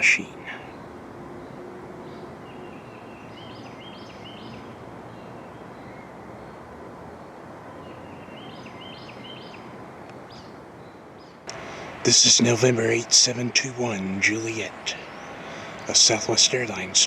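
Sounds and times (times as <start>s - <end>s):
outdoor background noise: 0.0s - 17.0s
songbird chirping: 0.0s - 17.0s.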